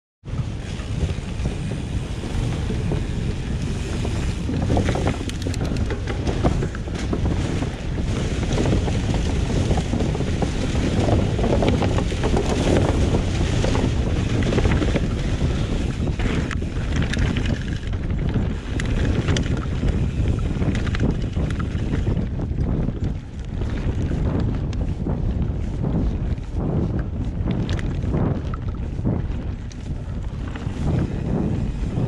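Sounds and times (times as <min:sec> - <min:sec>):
steady rushing noise: 0:00.2 - 0:32.0
wind buffeting microphone: 0:00.2 - 0:32.0.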